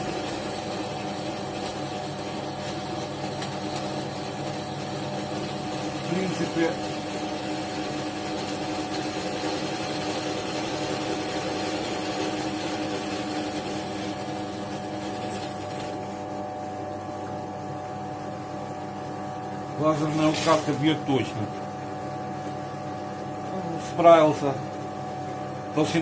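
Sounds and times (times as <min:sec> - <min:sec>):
drill press motor hum: 0:00.0 - 0:26.0.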